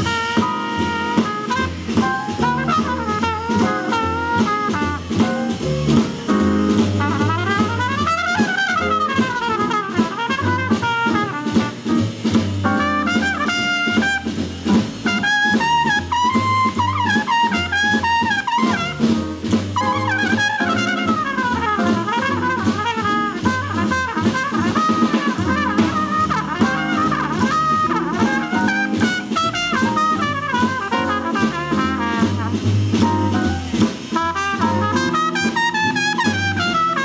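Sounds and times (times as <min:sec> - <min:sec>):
drum kit: 0:00.0 - 0:37.0
trumpet jazz solo: 0:00.0 - 0:37.0
upright bass walking: 0:00.0 - 0:37.0.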